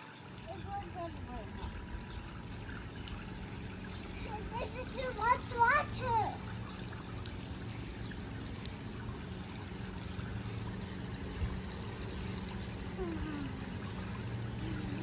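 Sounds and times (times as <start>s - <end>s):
water splashing into pool: 0.0s - 15.0s.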